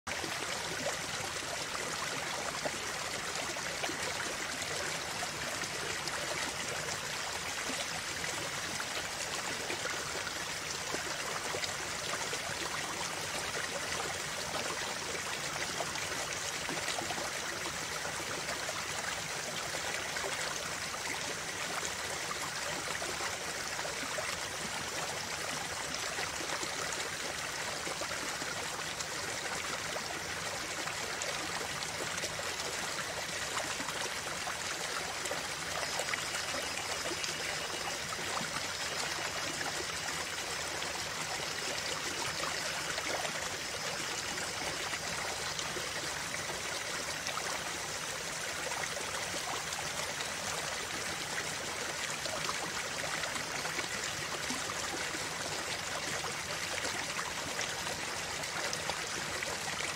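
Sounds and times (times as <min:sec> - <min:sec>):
stream splashing over rocks: 0:00.1 - 0:59.9.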